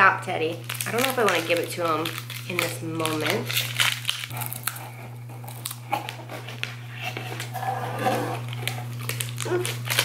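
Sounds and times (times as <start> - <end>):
steady low hum: 0.0 - 10.0
wrapper crinkling: 0.4 - 10.0
crisp wafer chewing: 0.6 - 10.0.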